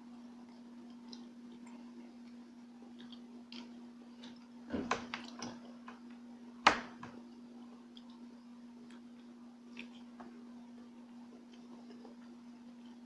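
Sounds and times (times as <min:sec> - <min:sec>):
steady low hum: 0:00.0 - 0:13.0
soft chewing clicks: 0:00.1 - 0:06.2, 0:07.2 - 0:13.0.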